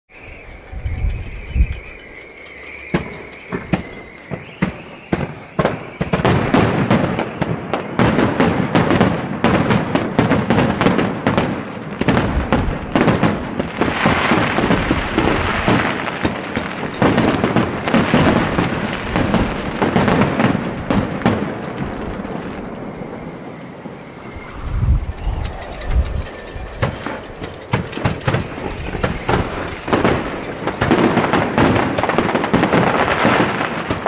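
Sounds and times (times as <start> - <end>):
fireworks bangs: 0.5 - 34.0.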